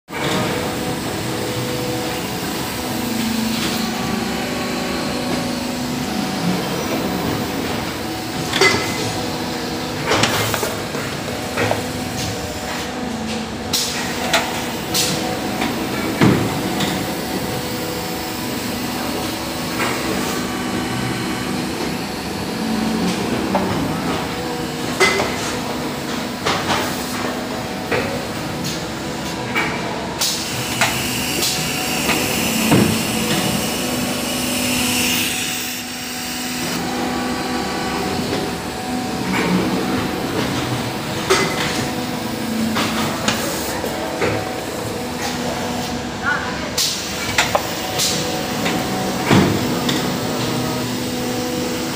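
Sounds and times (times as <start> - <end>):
machine humming: 0.1 - 51.9.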